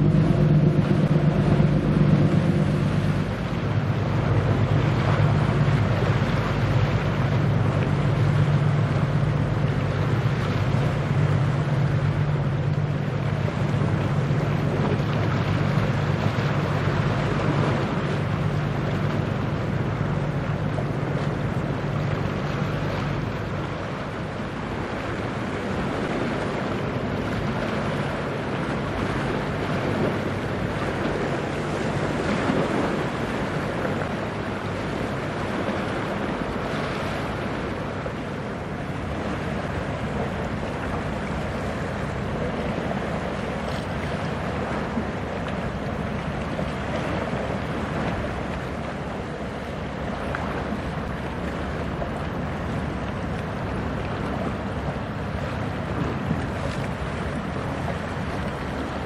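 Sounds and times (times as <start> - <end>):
choppy water: 0.0 - 59.0
low hum of ship: 0.0 - 59.0
wind on microphone: 0.0 - 59.0.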